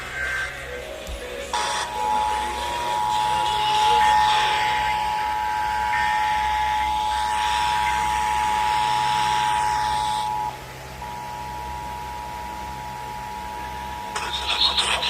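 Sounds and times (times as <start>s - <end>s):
radio static hiss: 0.0s - 15.0s
two-tone alert signal: 1.5s - 14.2s.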